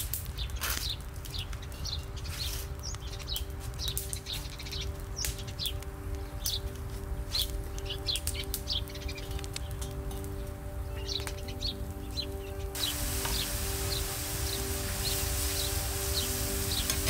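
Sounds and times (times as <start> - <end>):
small birds chirping: 0.0 - 17.0
soft background music: 0.0 - 17.0
twig fire crackling and popping: 0.0 - 17.0.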